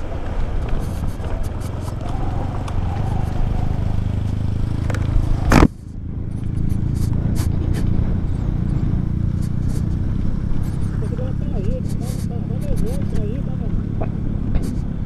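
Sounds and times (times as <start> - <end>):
scooter engine running: 0.0 - 15.0.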